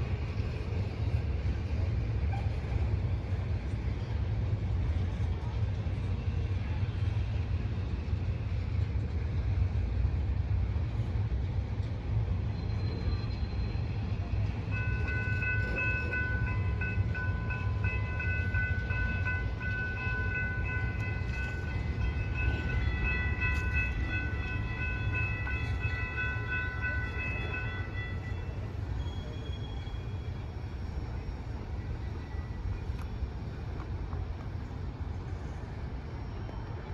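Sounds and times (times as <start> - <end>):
freight train cars rolling: 0.0 - 36.9.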